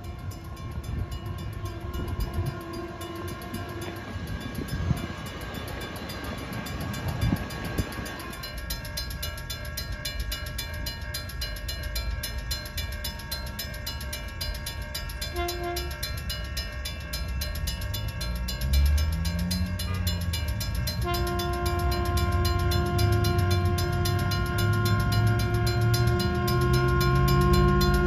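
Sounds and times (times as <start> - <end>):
crossing warning bell ringing: 0.0 - 28.0
train rumble: 0.0 - 28.0.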